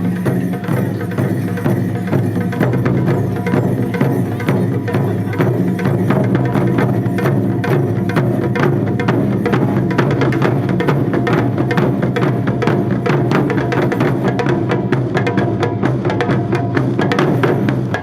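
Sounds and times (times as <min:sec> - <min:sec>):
drum and wood-block strikes: 0:00.0 - 0:18.0.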